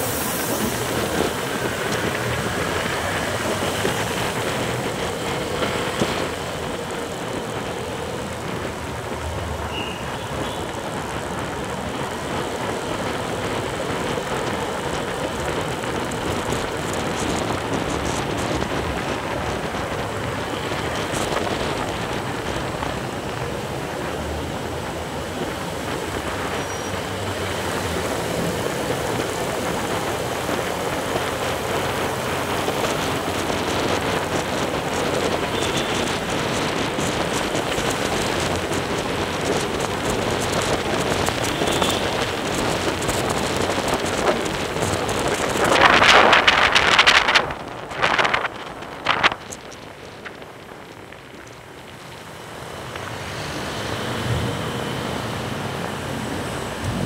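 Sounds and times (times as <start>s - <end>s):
wind rush: 0.0s - 52.0s
passing cars and motorcycles: 0.0s - 57.0s
road noise: 0.0s - 57.0s.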